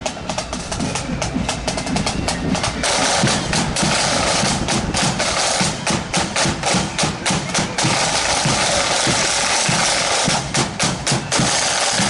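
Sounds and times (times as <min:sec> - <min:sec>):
bass drum beats: 0:00.0 - 0:12.0
snare drum rolls: 0:00.0 - 0:12.0.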